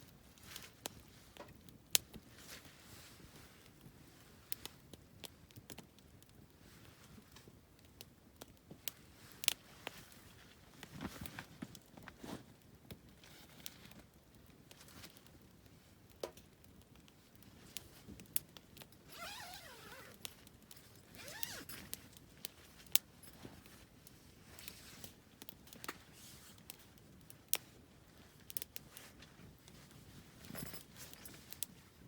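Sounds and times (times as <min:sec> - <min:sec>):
campfire crackling: 0:00.1 - 0:32.0.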